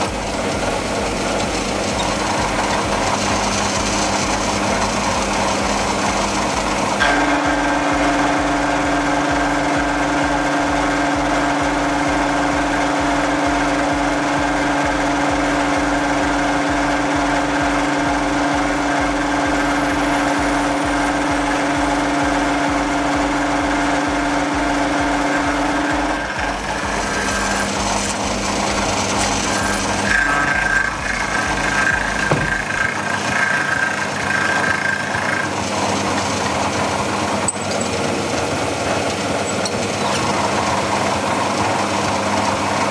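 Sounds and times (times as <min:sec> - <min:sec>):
cutter grinding metal: 0:00.0 - 0:42.8
milling machine motor hum and whine: 0:00.0 - 0:42.9.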